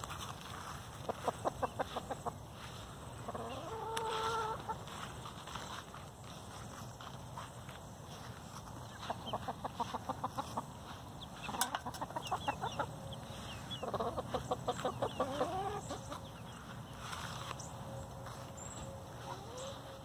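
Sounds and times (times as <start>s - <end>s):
hens clucking: 0.4s - 20.0s.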